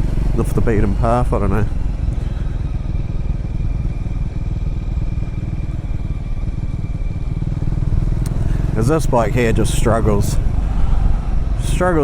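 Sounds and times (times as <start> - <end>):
faint steady whine: 0.0 - 12.0
motorcycle engine running: 0.0 - 12.0.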